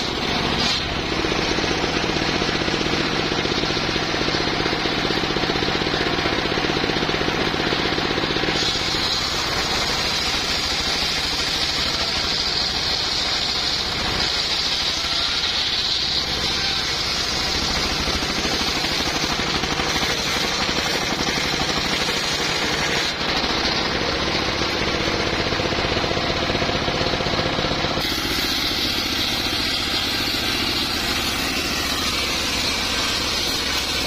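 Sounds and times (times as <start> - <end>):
saw blade whining through log: 0.0 - 34.0.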